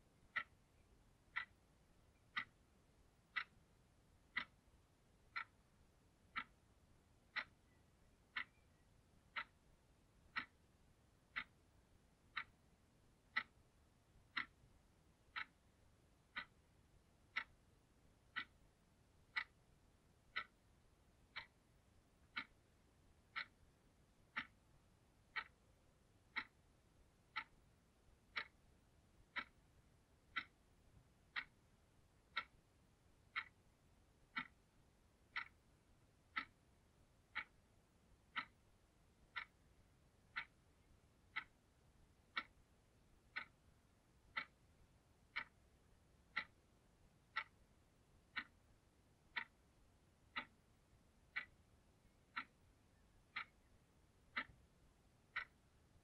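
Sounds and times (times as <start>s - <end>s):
alarm clock ticking: 0.1s - 56.0s.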